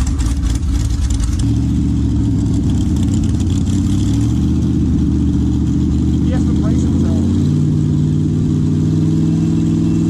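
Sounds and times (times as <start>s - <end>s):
motorcycle engine running loud: 0.0s - 10.0s.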